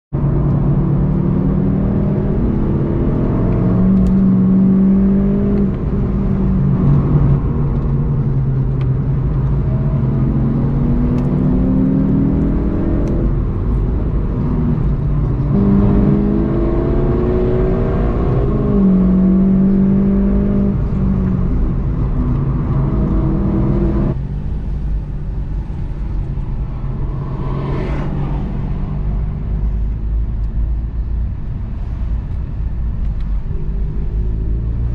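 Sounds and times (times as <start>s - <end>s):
car engine revving: 0.2s - 32.0s.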